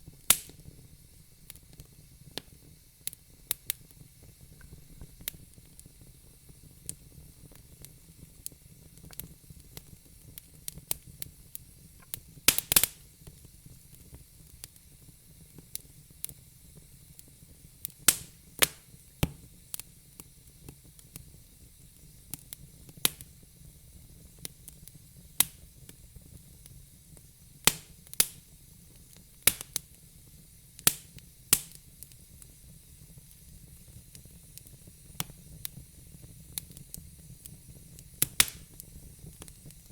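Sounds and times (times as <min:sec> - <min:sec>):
faint steady hiss: 0:00.0 - 0:39.9
wood fire crackling and popping: 0:00.0 - 0:39.9.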